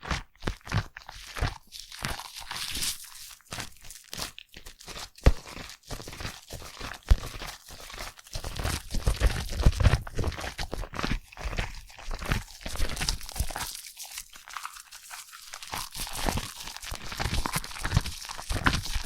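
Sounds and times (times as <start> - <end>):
foam lather squishing: 0.4 - 19.0.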